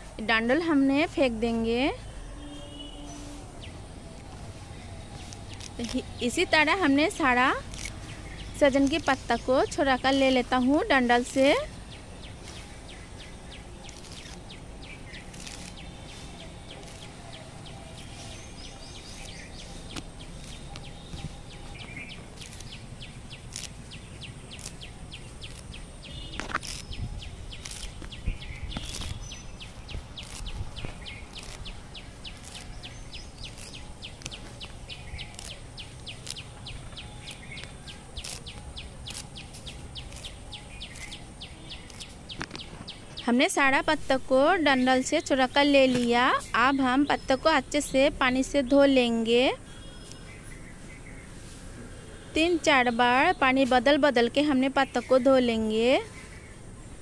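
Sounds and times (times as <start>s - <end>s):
birds chirping: 0.0s - 57.0s
outdoor background noise: 0.0s - 57.0s.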